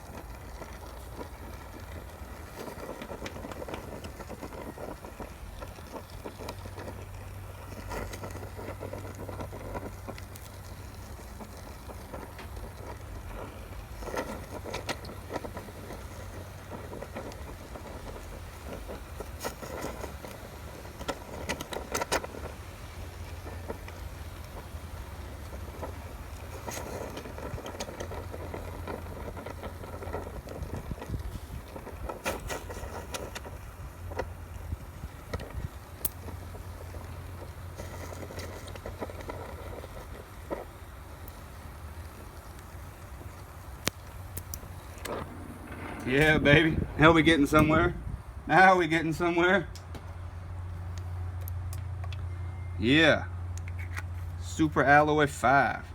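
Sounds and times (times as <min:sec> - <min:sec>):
gas torch flame burning: 0:00.0 - 0:55.9.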